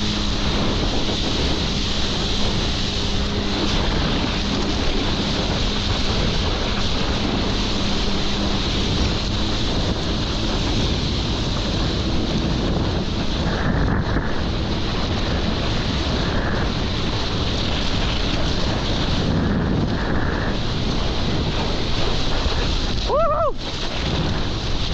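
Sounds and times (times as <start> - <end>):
rushing water: 0.0 - 24.9
wind buffeting microphone: 0.0 - 24.9.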